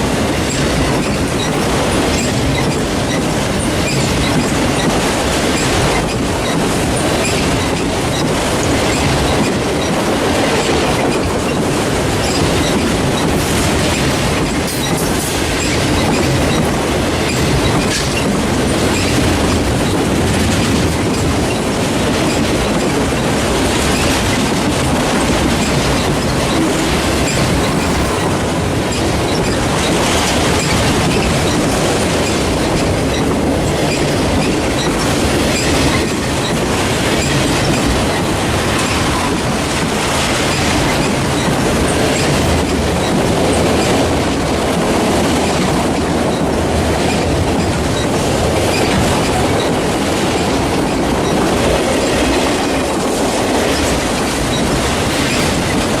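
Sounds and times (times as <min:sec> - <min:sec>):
freight train cars rolling past: 0:00.0 - 0:56.0
wheels clacking over rail joints: 0:00.0 - 0:56.0.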